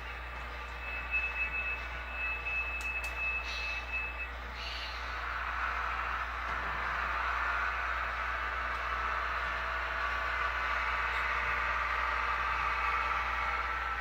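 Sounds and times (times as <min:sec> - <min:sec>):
synthesized diesel engine sound: 0:00.0 - 0:14.0.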